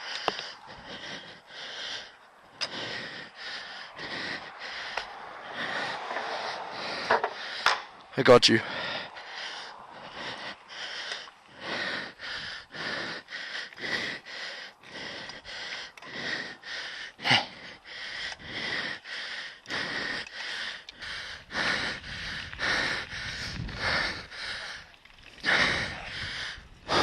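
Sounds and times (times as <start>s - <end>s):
rapid heavy breathing: 0.0s - 27.0s.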